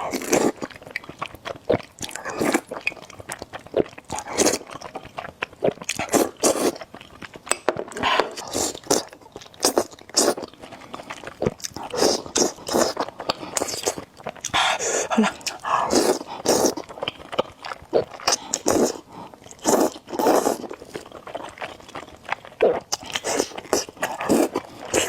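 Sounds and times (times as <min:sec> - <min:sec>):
close-miked noodle eating: 0:00.0 - 0:25.0.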